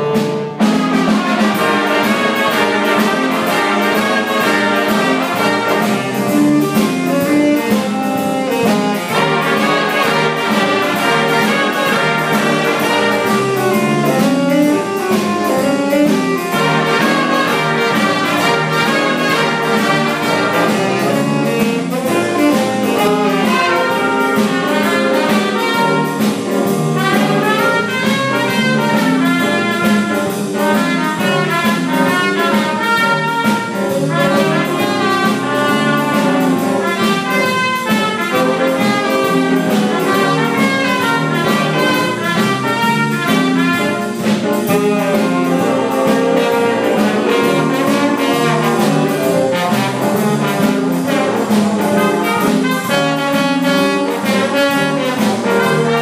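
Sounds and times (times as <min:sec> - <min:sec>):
jazz music with brass: 0:00.0 - 0:56.0.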